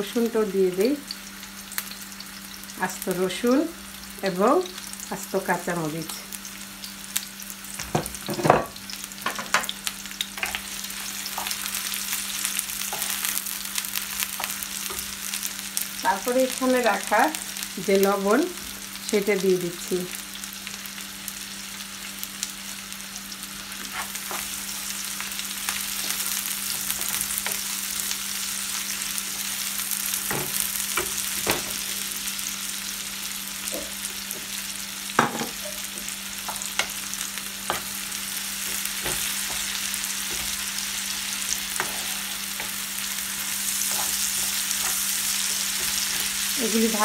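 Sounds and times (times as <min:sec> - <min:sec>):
onions sizzling in oil: 0:00.0 - 0:47.0.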